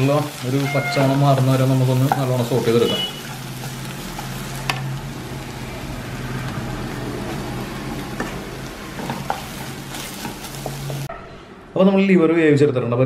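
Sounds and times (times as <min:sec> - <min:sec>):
onions sizzling in a pan: 0:00.0 - 0:11.1.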